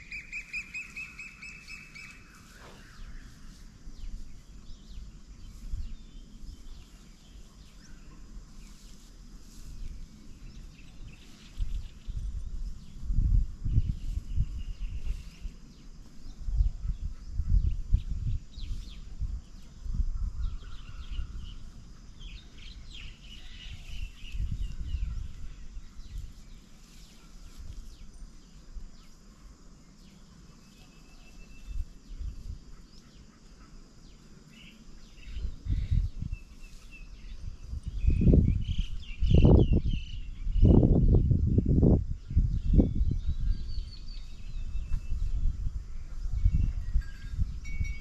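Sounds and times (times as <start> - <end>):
small birds chirping: 0.0 - 47.7.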